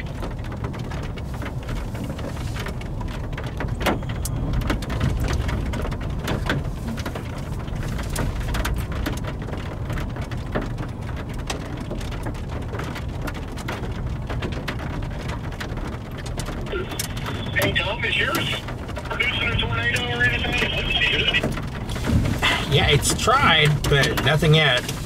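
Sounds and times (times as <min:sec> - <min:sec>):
rain tapping on car roof: 0:00.0 - 0:25.0
steady low rumble: 0:00.0 - 0:25.0.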